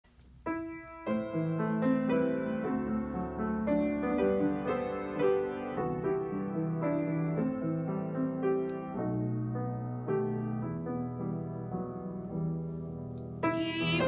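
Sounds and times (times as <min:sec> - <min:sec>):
slow gentle keyboard music: 0:00.1 - 0:14.0.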